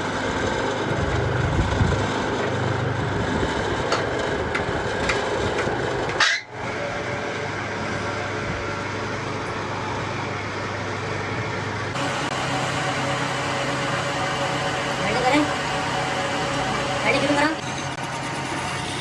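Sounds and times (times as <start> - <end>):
road and engine noise: 0.0 - 19.0.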